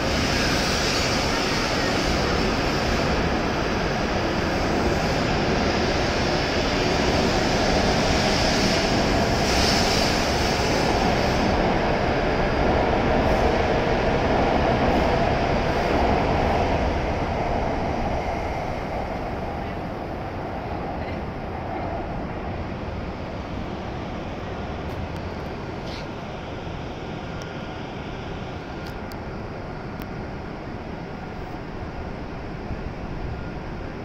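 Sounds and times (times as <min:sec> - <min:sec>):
train running past platform: 0:00.0 - 0:34.0.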